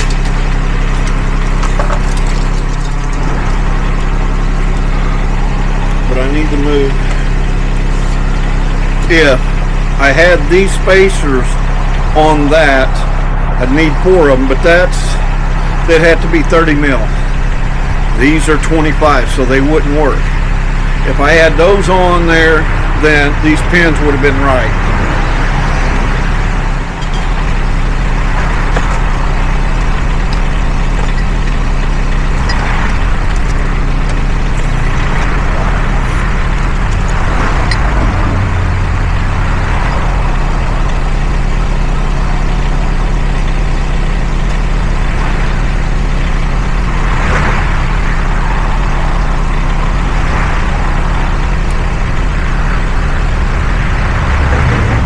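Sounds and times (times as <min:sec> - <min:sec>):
mini excavator engine running: 0:00.0 - 0:55.0.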